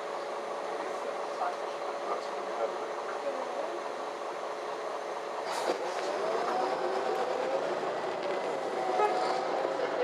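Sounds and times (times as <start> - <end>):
bus running with whining tones: 0.0 - 10.0.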